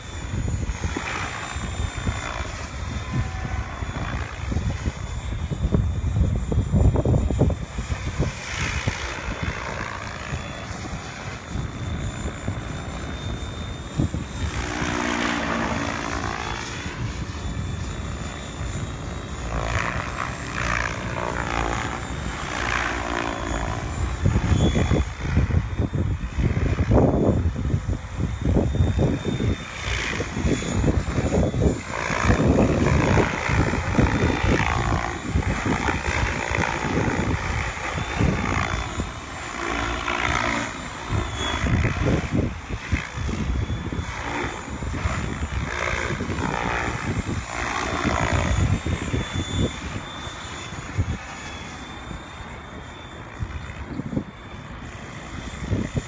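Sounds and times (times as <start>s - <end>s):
model helicopter rotor whooshing: 0.0s - 56.0s.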